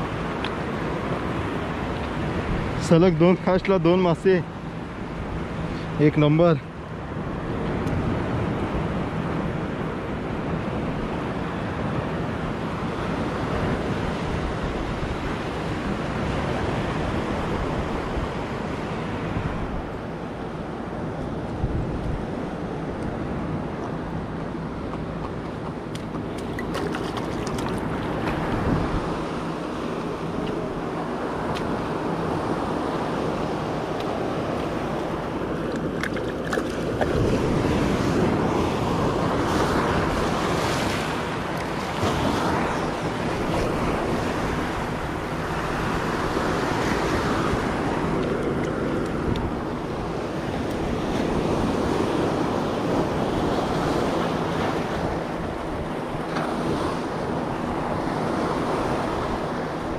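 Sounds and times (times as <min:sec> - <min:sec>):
surf washing over rocky shore: 0:00.0 - 0:59.9
wind buffeting microphone: 0:07.2 - 0:59.9.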